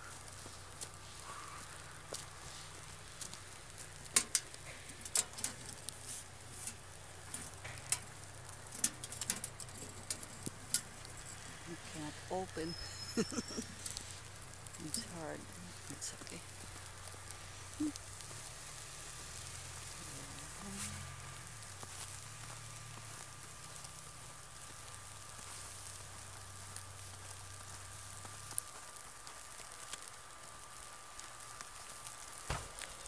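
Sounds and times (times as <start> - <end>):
snow pattering on jacket: 0.0 - 33.0.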